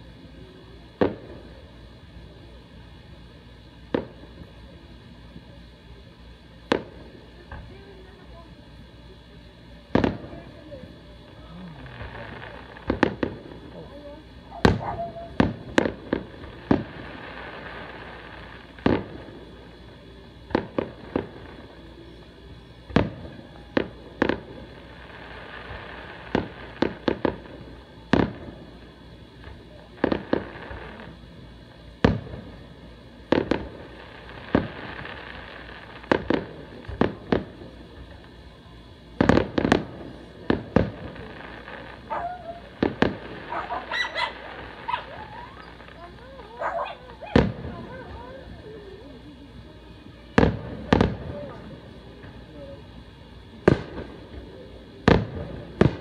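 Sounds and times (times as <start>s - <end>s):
fireworks crackling pops: 0.0s - 56.0s
fireworks booming: 0.7s - 8.8s, 9.7s - 49.3s, 50.3s - 56.0s.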